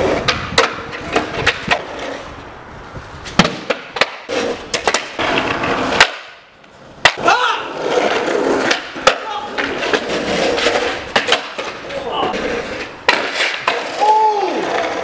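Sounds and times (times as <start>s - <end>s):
skateboard clacking: 0.0s - 2.5s, 3.3s - 15.0s
skateboard wheels rolling on concrete: 0.0s - 15.0s.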